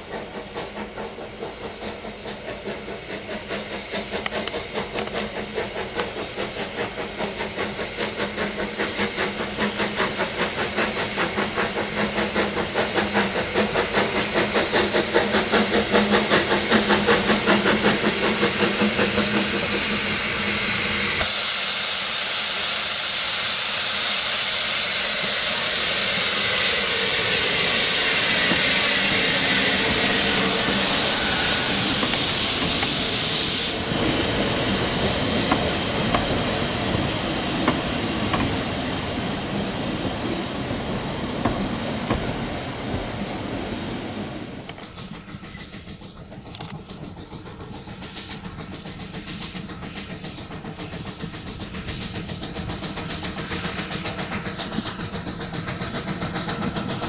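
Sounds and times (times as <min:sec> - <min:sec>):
loud steam hiss: 0:00.0 - 0:57.0
steam locomotive exhaust beats: 0:00.0 - 0:57.0.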